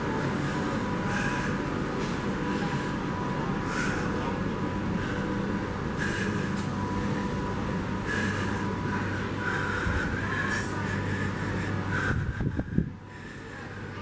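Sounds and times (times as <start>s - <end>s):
train low hum: 0.0s - 14.0s.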